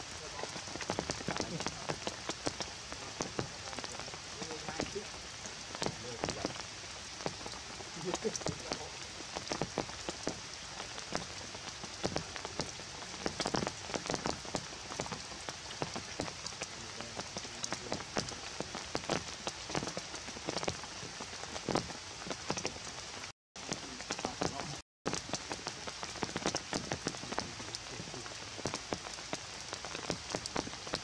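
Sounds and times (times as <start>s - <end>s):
raindrops ticking: 0.0s - 31.0s
steady rain on wet ground: 0.0s - 31.0s.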